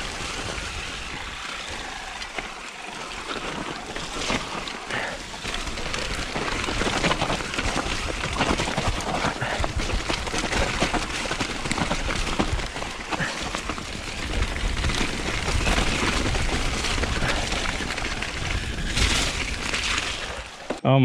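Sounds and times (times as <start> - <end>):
mountain bike riding noise: 0.0 - 21.0
bike knocks and rattles: 3.4 - 20.8.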